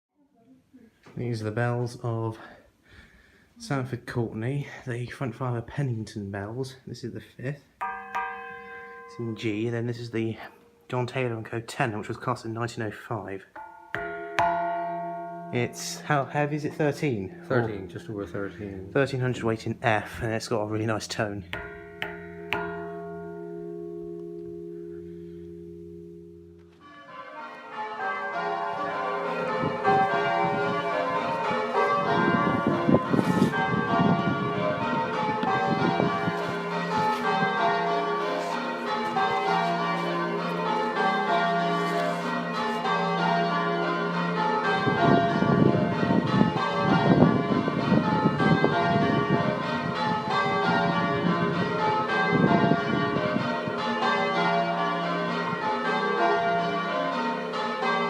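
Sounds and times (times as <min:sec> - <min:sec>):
church bells ringing: 0:07.5 - 0:58.0.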